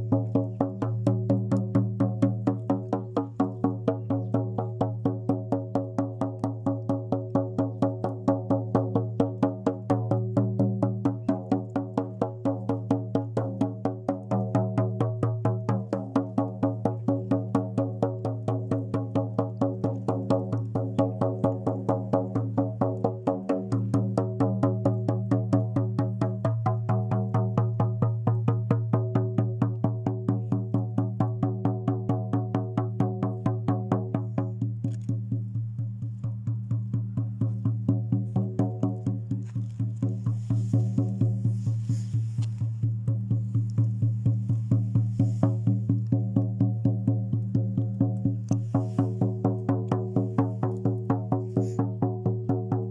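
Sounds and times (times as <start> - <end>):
fast steady drumbeat: 0.0 - 52.9.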